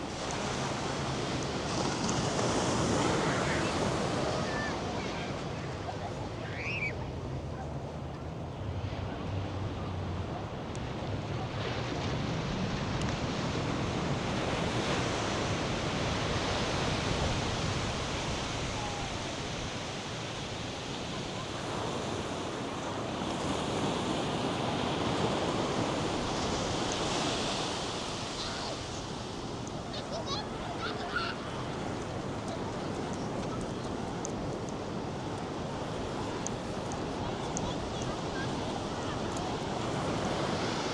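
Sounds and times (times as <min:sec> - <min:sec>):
surf breaking on beach: 0:00.0 - 0:40.9.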